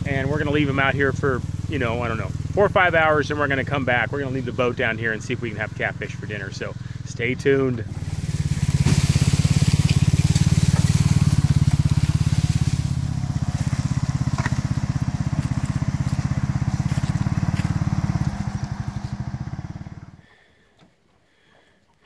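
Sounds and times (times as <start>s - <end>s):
tyres crunching over leaves and gravel: 0.0s - 20.3s
utility vehicle engine running: 0.0s - 20.3s.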